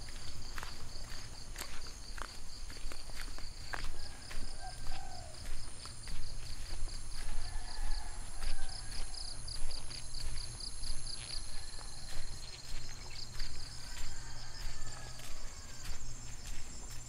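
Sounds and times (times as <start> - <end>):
footsteps on dirt path: 0.0 - 17.0
insects chirping: 0.0 - 17.0.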